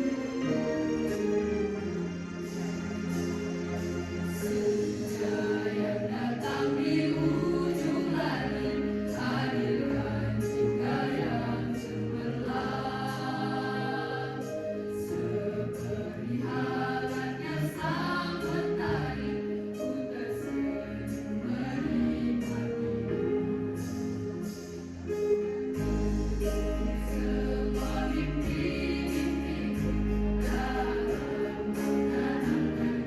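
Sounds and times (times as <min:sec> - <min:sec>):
choir singing: 0:00.0 - 0:24.6, 0:25.2 - 0:33.0
instrumental accompaniment: 0:00.0 - 0:33.0.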